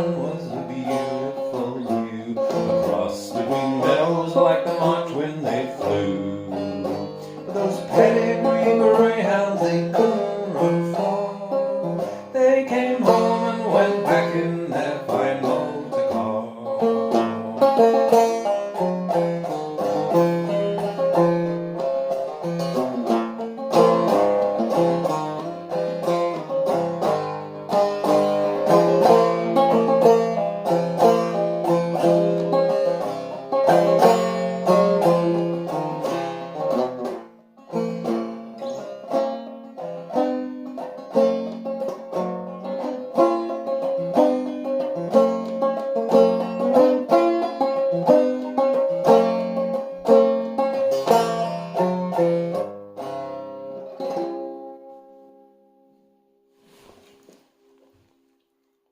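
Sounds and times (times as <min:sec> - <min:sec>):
banjo played clawhammer style: 0:00.0 - 0:56.2.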